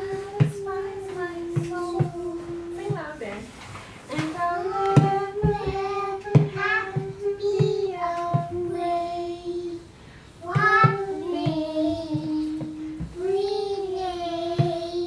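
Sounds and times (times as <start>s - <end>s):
child singing: 0.0s - 3.1s, 4.1s - 15.0s
light regular knocks: 0.0s - 9.8s, 10.4s - 15.0s.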